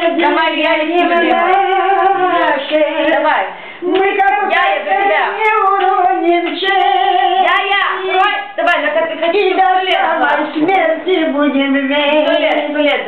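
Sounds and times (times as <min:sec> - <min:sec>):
elderly woman singing: 0:00.0 - 0:13.0.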